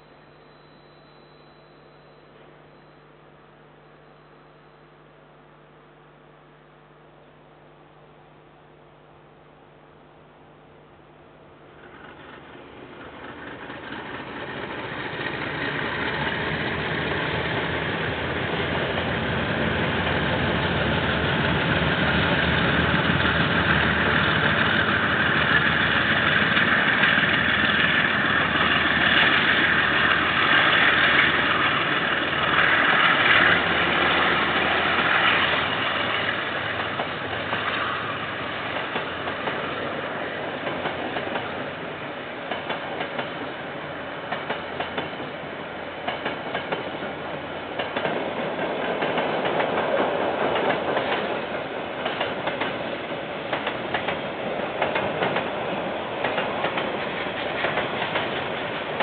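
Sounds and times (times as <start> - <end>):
wheel noise on rails: 11.6 - 59.0
diesel locomotive engine running: 11.7 - 59.0.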